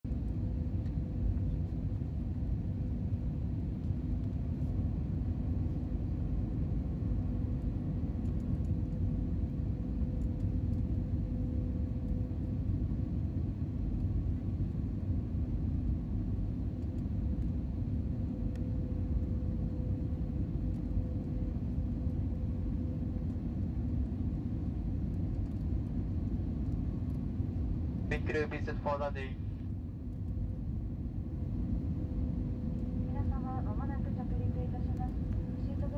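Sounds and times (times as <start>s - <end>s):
airplane cabin rumble: 0.0s - 35.9s
faint steady hum: 0.1s - 35.9s.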